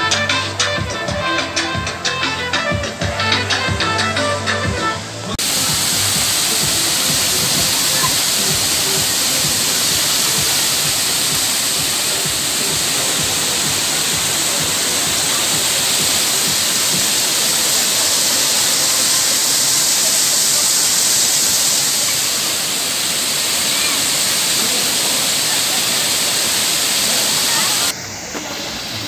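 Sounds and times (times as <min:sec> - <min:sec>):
water spraying and pouring: 0:05.4 - 0:29.0.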